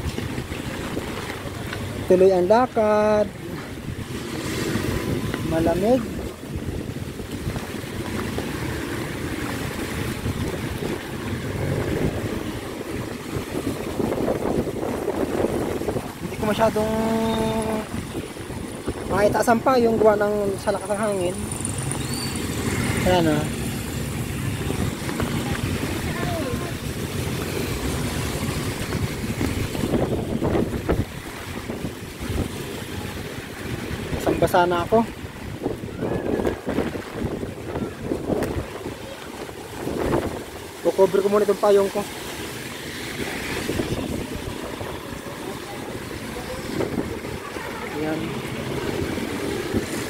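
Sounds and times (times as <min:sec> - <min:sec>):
heavy rain on wet road: 0:00.0 - 0:50.0
storm wind buffeting microphone: 0:03.0 - 0:21.8, 0:22.4 - 0:41.0, 0:42.2 - 0:50.0.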